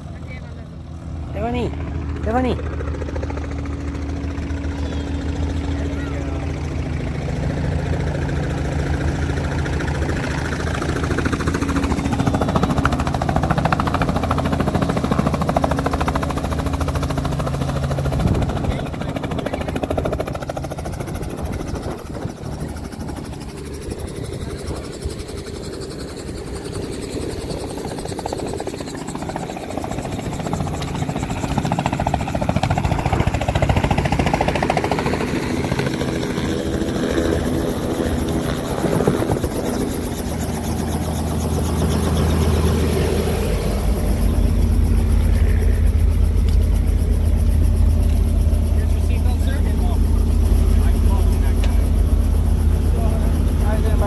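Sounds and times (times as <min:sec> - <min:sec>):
helicopter engine and rotor hum: 0:00.0 - 0:54.0.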